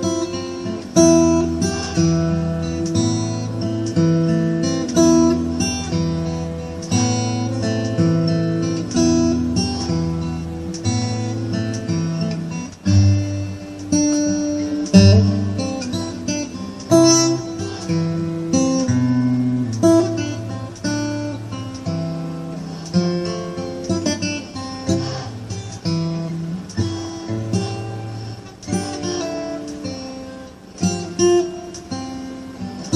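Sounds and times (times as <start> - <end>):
acoustic guitar music: 0.0 - 32.9.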